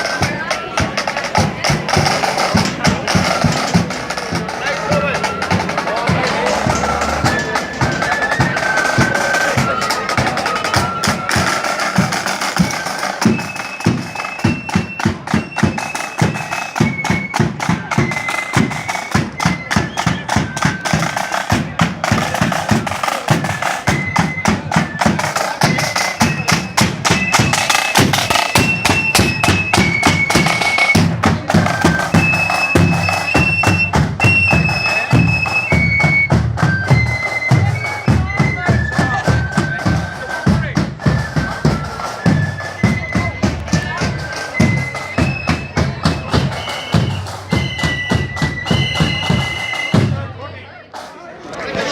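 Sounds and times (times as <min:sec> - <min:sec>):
side drums and bass drum: 0:00.0 - 0:50.4
flutes playing melody: 0:00.0 - 0:50.5.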